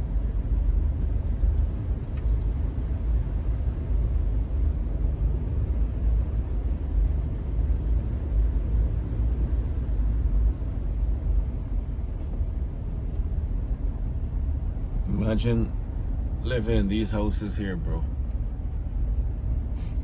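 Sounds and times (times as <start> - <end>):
vehicle rumbling on the move: 0.0 - 20.0.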